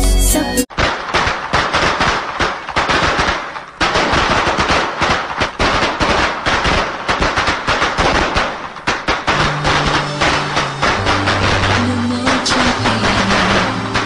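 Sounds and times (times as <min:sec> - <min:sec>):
fireworks bangs and crackles: 0:00.7 - 0:14.0.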